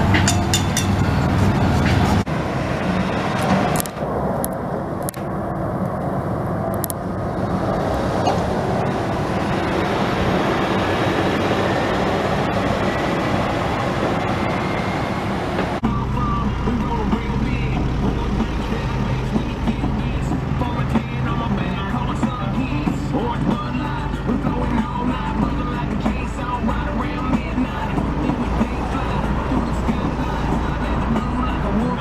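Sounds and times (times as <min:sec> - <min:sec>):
road noise rushing: 0:00.0 - 0:32.0
vehicle engine hum: 0:00.0 - 0:32.0.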